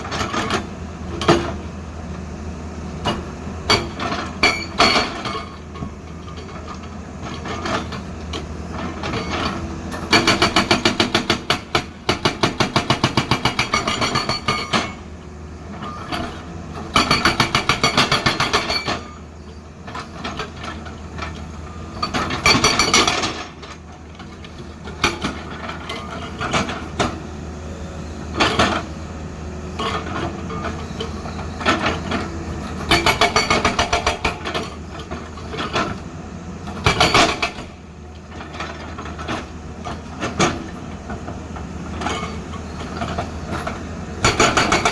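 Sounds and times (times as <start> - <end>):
excavator engine running: 0.0 - 44.9
hydraulic rock breaker hammering stone: 3.0 - 8.0, 8.8 - 15.1, 15.7 - 19.3, 19.9 - 27.4, 29.7 - 44.9.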